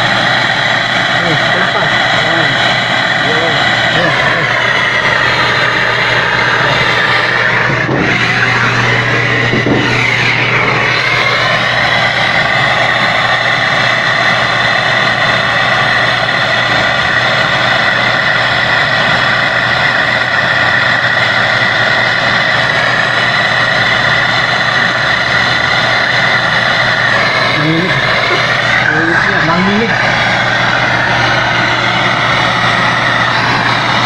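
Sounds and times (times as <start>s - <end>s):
steady low hum: 0.0s - 34.0s
torch flame hissing: 0.0s - 34.0s.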